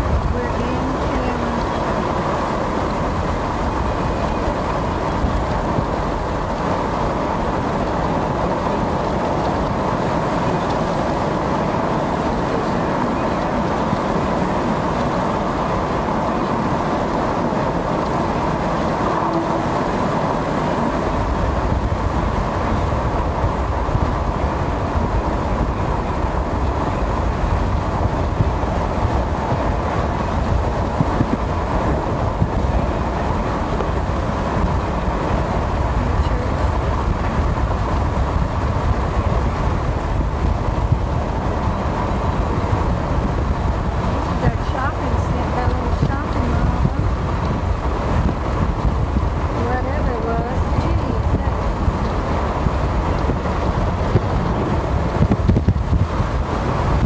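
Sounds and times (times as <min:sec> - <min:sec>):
vehicle road noise from inside: 0:00.0 - 0:57.0.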